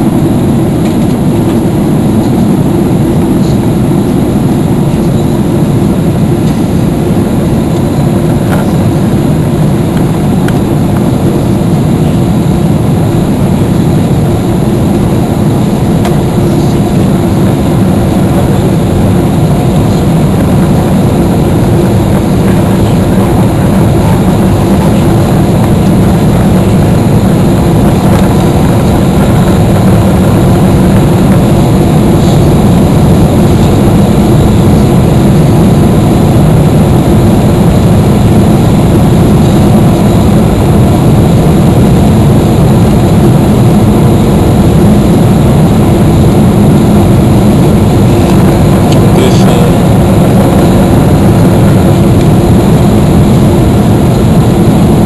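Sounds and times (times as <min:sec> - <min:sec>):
airplane cabin rushing noise: 0:00.0 - 0:55.0.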